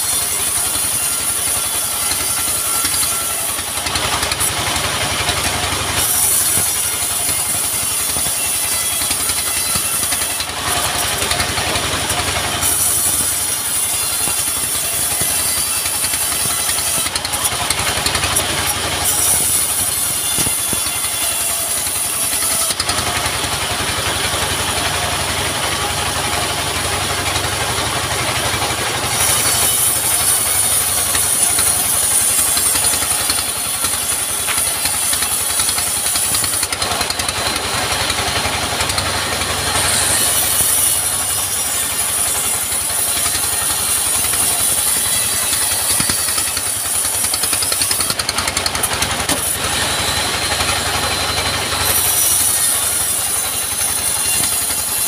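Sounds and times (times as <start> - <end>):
band saw cutting a log: 0.0 - 55.0.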